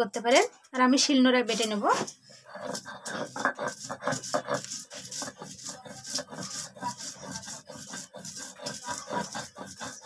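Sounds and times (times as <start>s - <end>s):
stone roller grinding on stone: 1.5s - 10.0s.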